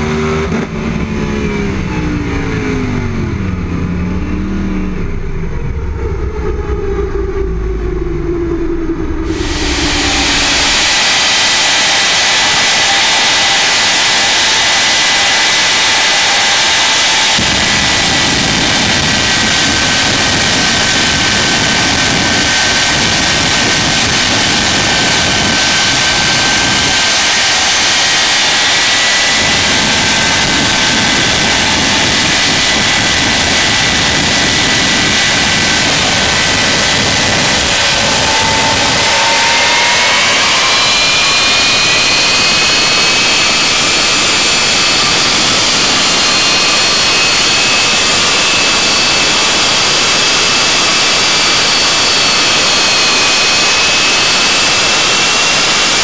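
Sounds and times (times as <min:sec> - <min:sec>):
jet engines roaring with whine: 0:00.0 - 0:56.0
drag car engine pitch falling: 0:04.8 - 0:51.7.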